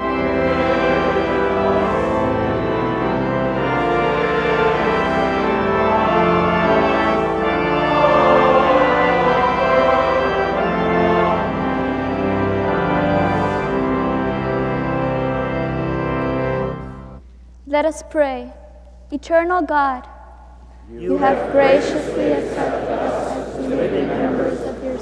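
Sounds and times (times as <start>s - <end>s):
pipe organ chords: 0.0s - 17.2s, 20.9s - 25.0s.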